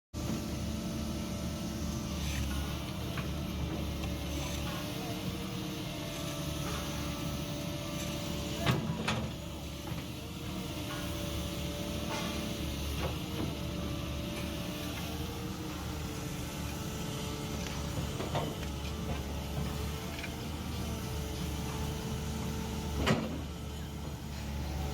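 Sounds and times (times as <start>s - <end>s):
backhoe diesel engine running: 0.2s - 24.9s.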